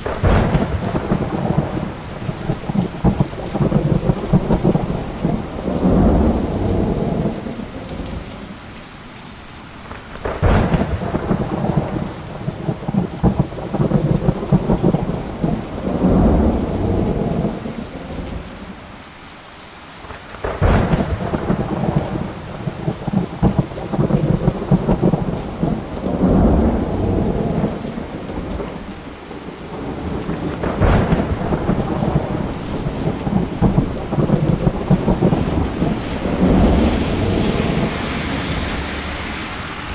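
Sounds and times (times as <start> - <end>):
sharp thunderclaps: 0.0 - 8.2, 9.9 - 18.3, 20.4 - 39.3
rolling thunder: 0.0 - 8.4, 9.9 - 18.6, 20.4 - 39.9
rain falling steadily: 0.0 - 39.9.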